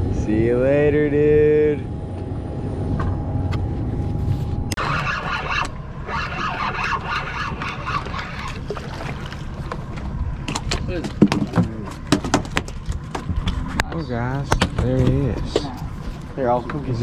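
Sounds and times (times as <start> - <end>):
outboard motor rumbling: 0.0 - 17.0.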